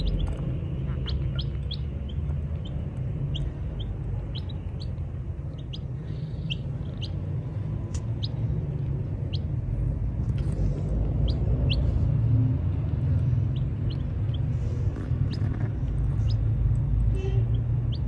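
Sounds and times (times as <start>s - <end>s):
baby chicks peeping: 0.0s - 18.0s
steady low rumble: 0.0s - 18.0s.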